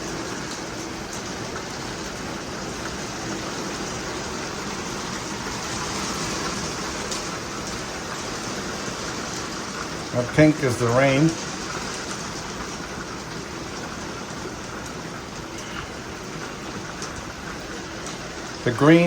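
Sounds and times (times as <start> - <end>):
rain falling on a boat: 0.0 - 19.0.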